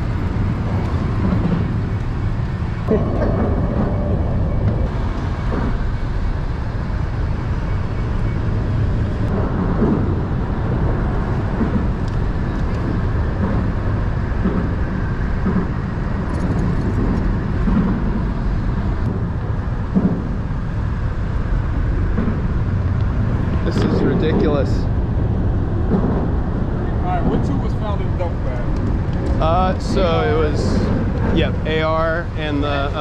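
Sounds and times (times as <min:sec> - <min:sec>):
low rumble of motor vehicles: 0:00.0 - 0:33.0.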